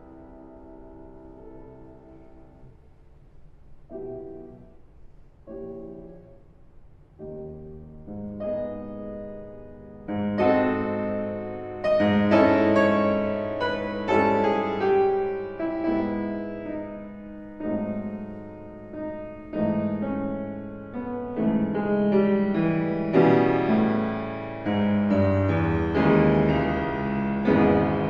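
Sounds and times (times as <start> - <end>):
soft piano chords: 0.0 - 28.0.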